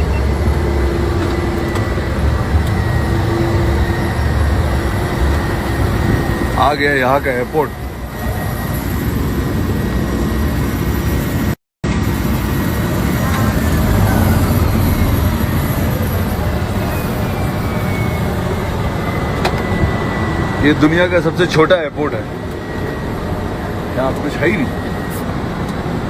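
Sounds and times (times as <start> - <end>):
propeller plane engine drone: 0.0 - 26.0.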